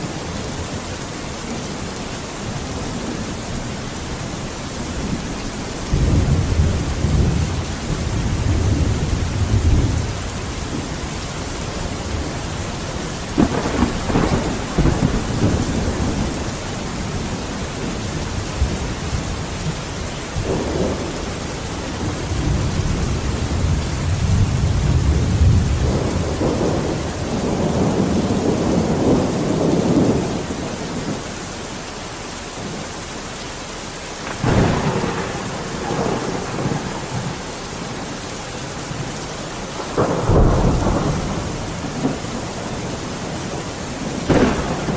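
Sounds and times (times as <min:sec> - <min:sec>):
steady rain: 0:00.0 - 0:44.9
rolling thunder: 0:04.8 - 0:31.2, 0:34.2 - 0:44.9.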